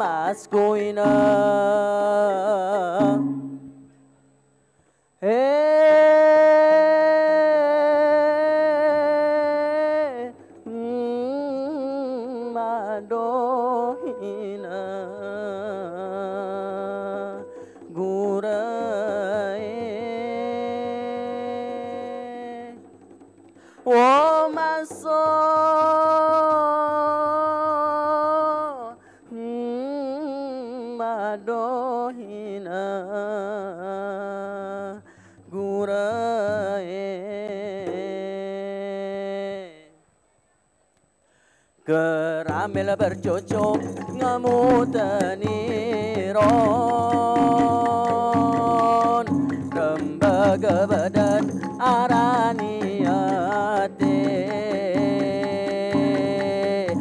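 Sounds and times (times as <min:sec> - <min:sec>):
person singing ornamented notes: 0:00.0 - 0:04.3, 0:05.2 - 0:22.9, 0:23.9 - 0:35.0, 0:41.9 - 0:57.0.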